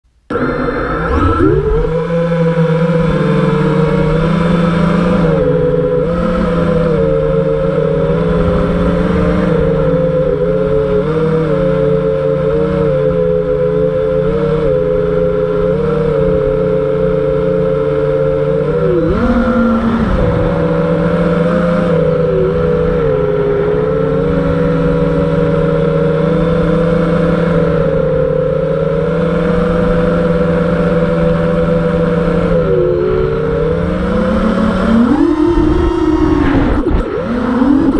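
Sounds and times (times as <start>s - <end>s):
drone motors buzzing: 0.2s - 37.9s.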